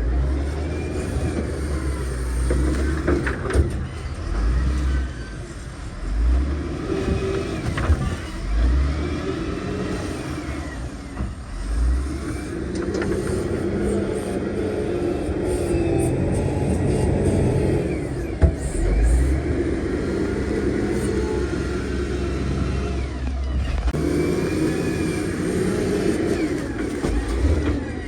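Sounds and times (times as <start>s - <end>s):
heavy diesel engines under load: 0.0s - 28.0s.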